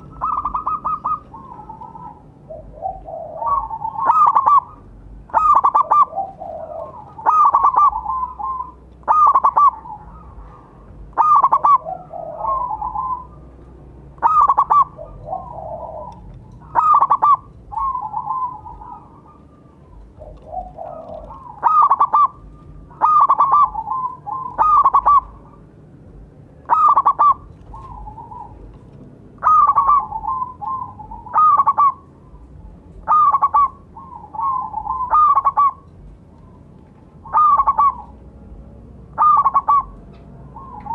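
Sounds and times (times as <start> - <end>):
dove cooing loudly: 0.0 - 13.5, 14.1 - 25.7, 26.6 - 36.6, 37.2 - 40.9.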